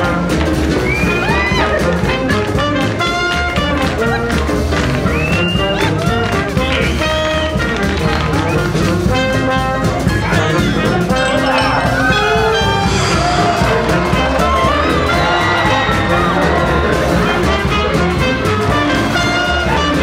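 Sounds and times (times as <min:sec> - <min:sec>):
swing jazz band music: 0:00.0 - 0:20.0.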